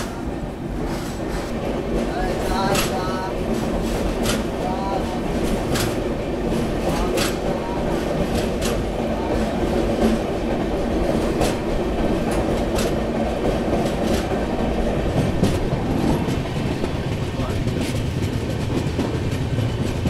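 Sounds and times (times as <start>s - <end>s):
train coaches rumbling: 0.0s - 20.0s
wheels clacking over rail joints: 0.0s - 20.0s.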